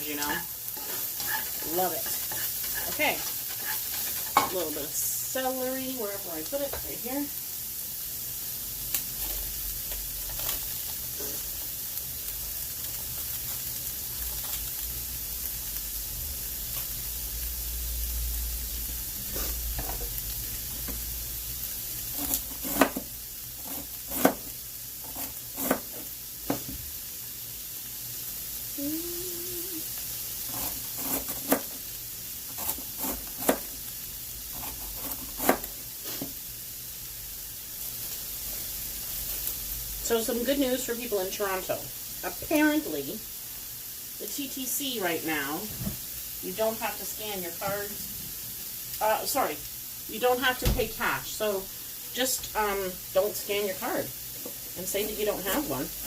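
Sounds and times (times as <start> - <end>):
vegetables sizzling in a pot: 0.0 - 56.0.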